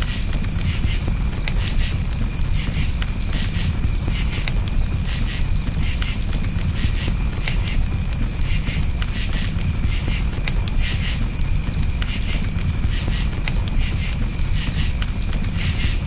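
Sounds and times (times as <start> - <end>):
campfire crackling: 0.0 - 16.0
crickets chirping: 0.0 - 16.0.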